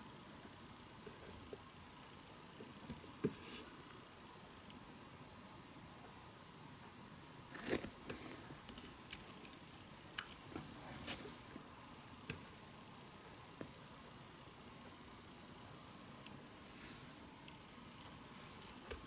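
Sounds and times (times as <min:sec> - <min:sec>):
faint hiss: 0:00.0 - 0:19.0.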